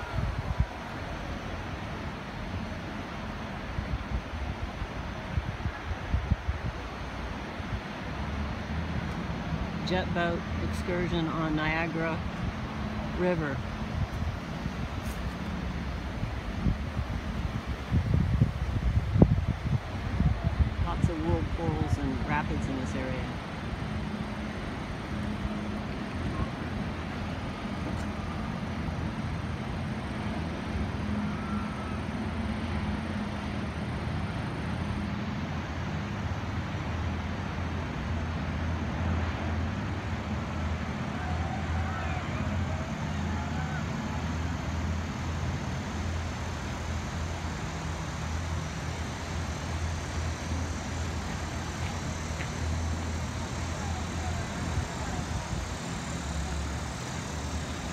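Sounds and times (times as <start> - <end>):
low engine drone: 0.0 - 57.9
river rapids rushing: 0.0 - 57.9.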